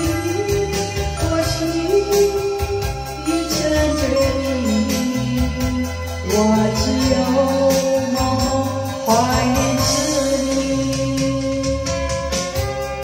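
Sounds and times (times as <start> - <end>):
karaoke ballad from television: 0.0 - 13.0.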